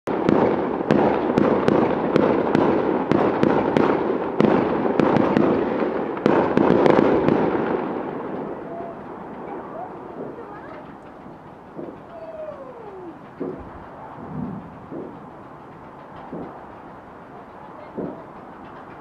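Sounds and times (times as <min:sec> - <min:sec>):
fireworks banging: 0:00.1 - 0:19.0
fireworks crackling: 0:00.1 - 0:19.0.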